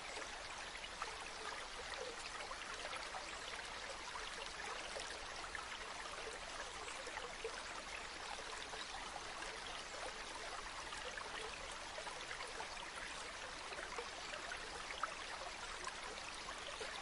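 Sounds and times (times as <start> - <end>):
shallow stream flowing: 0.0 - 17.0.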